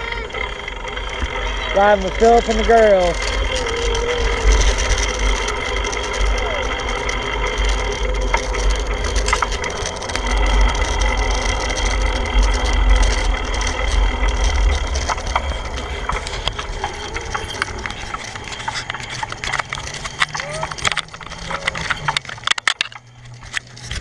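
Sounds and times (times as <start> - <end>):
bicycle clicks and rattles: 0.0 - 24.0
wind rumbling on microphone: 0.0 - 24.0.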